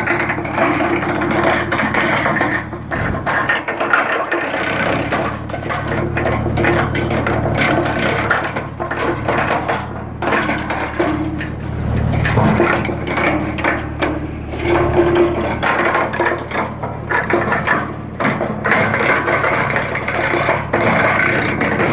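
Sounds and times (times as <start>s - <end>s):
tractor engine drone: 0.0s - 21.9s.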